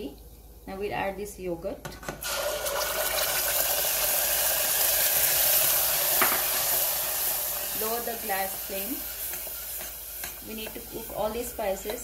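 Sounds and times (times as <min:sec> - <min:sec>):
yogurt sizzling in ghee: 0:02.2 - 0:12.0.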